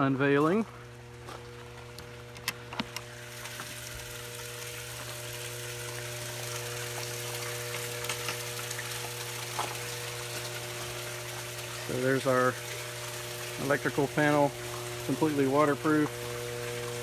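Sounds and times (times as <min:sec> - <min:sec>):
water pump humming: 0:00.0 - 0:17.0
water pouring into tank: 0:00.5 - 0:17.0.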